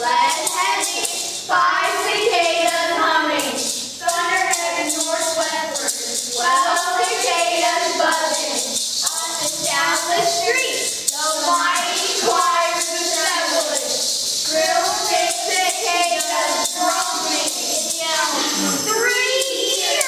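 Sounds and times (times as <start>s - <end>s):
children chanting: 0.0s - 20.0s.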